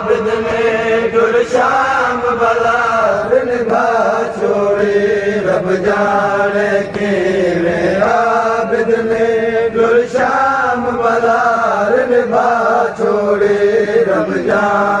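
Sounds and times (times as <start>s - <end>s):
person chanting devotional song: 0.0s - 15.0s.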